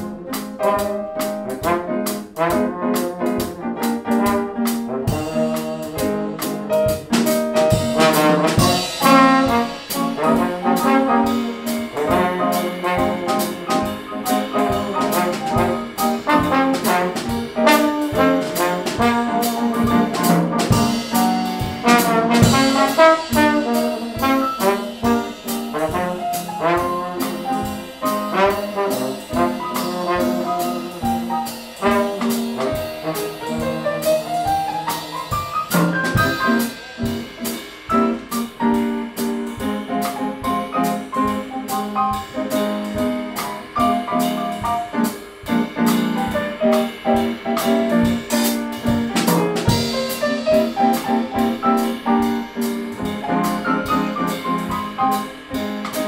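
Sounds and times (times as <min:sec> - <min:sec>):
drum kit: 0:00.0 - 0:56.0
piano: 0:00.0 - 0:56.0
slide trombone playing jazz: 0:00.0 - 0:56.0.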